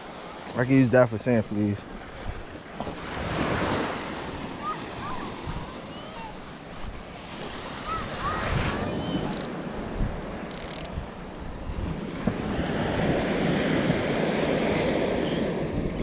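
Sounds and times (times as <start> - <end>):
surf washing up a beach: 0.0 - 16.0
wind buffeting microphone: 2.0 - 16.0.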